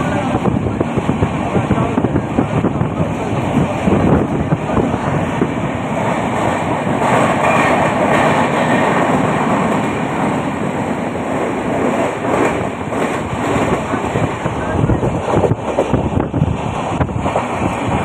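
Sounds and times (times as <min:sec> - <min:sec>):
train rumbling and rattling: 0:00.0 - 0:18.0.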